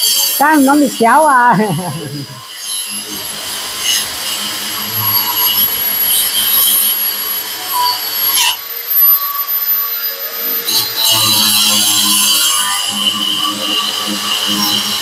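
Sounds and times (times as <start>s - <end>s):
saw motor whine: 0.0s - 15.0s.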